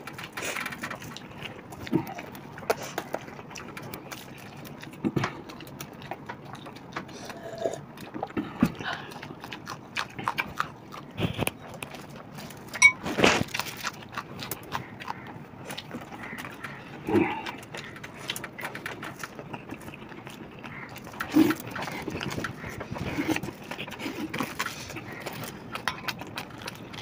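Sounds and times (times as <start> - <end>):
people chewing with mouth clicks: 0.0 - 27.0.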